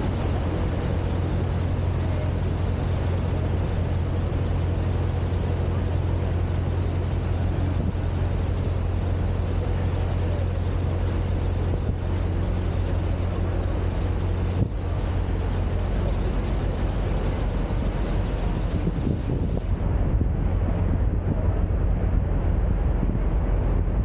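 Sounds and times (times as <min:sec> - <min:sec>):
boat engine droning: 0:00.0 - 0:24.0
hiss of wind and water: 0:00.0 - 0:24.0.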